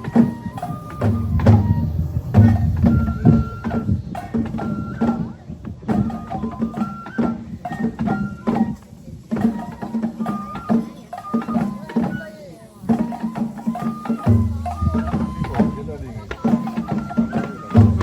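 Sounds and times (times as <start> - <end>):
drum strikes: 0.0 - 18.0
high flute notes: 0.0 - 18.0.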